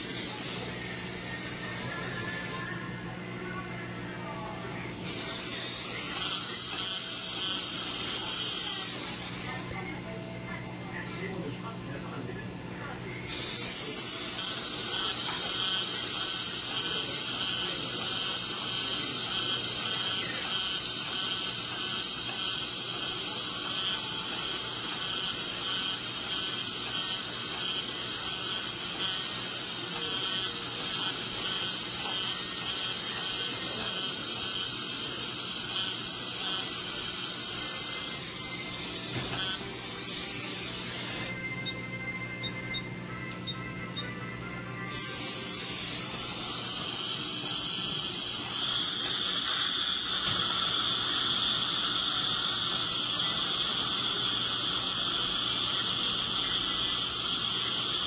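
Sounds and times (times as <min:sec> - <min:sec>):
dental handpiece spray hiss: 0:00.0 - 0:02.7, 0:05.0 - 0:09.6, 0:13.3 - 0:41.4, 0:44.9 - 0:58.0.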